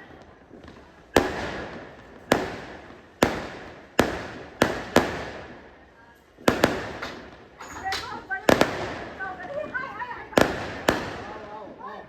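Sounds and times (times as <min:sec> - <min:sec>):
fireworks bangs: 0:00.0 - 0:11.9.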